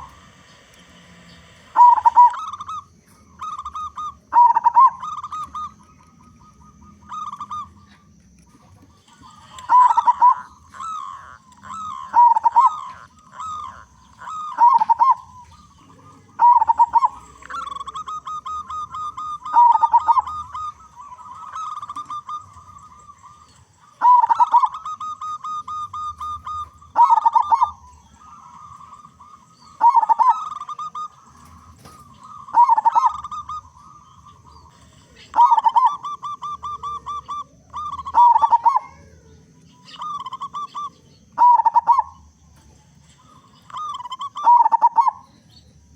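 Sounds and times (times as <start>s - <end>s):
dove cooing with rolling trill: 0.0s - 45.9s.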